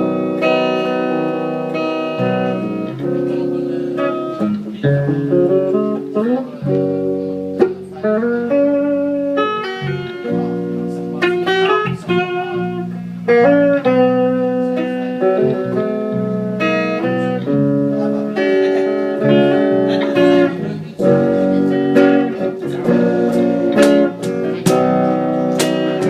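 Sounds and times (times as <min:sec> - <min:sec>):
guitar playing slowly: 0:00.0 - 0:26.0.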